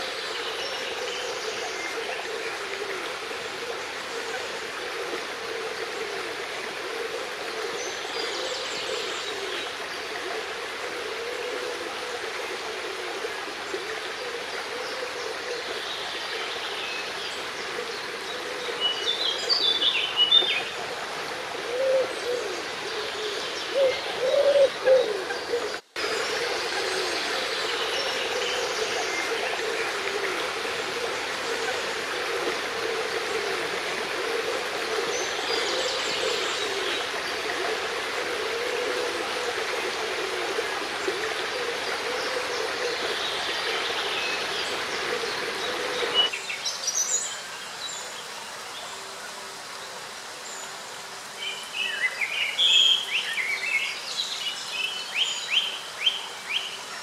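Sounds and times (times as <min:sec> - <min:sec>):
brook water flowing: 0:00.0 - 0:57.0.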